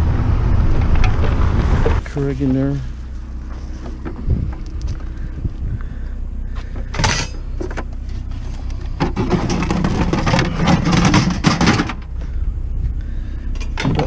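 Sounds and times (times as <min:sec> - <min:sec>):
steady low hum: 0:00.0 - 0:14.0
vehicle engine running: 0:00.0 - 0:14.0.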